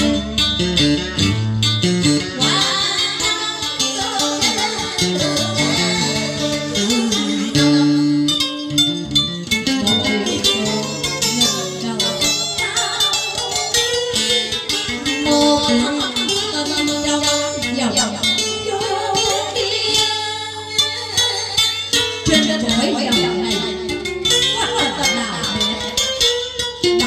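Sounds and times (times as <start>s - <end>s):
plucked strings: 0.0s - 27.0s.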